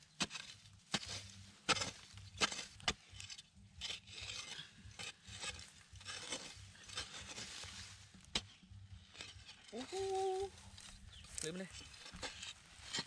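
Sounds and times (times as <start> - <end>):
metal blade striking hard soil: 0.0 - 10.1, 11.3 - 13.0
blade scraping earth: 0.0 - 13.0.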